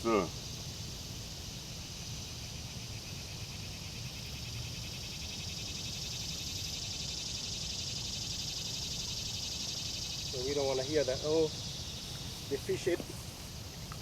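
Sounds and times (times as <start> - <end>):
insects chorus pulsing drone: 0.0 - 14.0.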